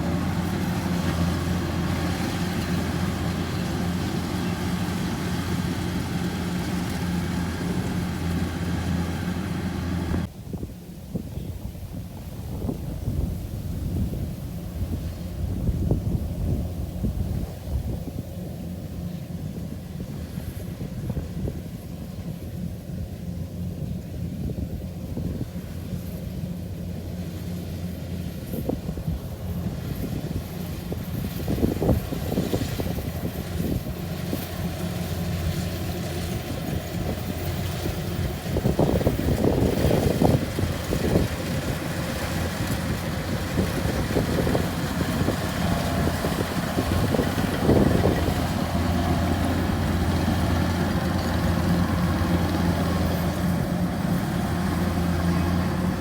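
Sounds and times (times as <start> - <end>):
farm machine engine humming: 0.0 - 10.3, 14.5 - 56.0.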